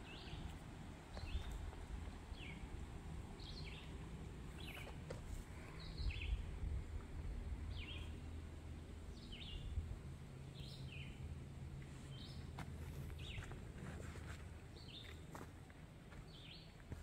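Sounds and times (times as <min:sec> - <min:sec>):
songbird singing: 0:00.0 - 0:13.8, 0:14.4 - 0:17.0.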